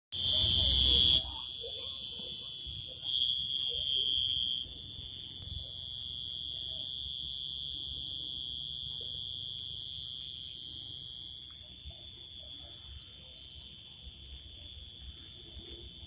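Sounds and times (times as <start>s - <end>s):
cricket trilling: 0.2s - 16.0s.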